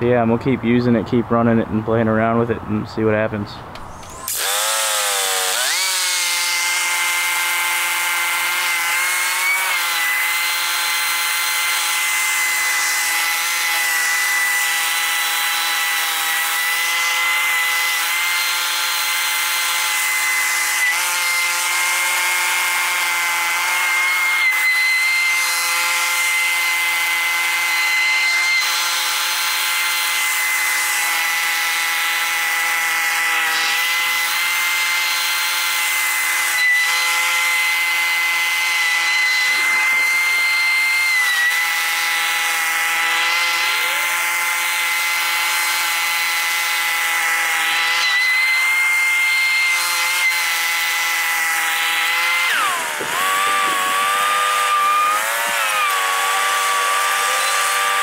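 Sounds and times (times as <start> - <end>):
leaf blower running: 3.8 - 58.0.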